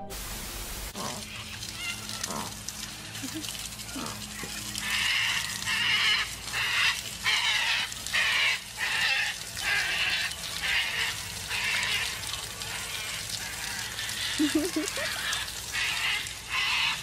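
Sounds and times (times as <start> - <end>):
hose water splashing: 0.0 - 17.0.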